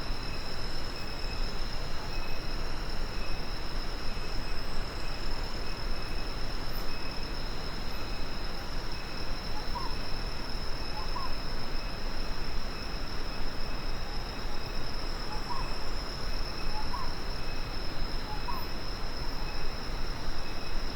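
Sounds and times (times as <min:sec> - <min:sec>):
high-pitched insect drone: 0:00.0 - 0:20.9.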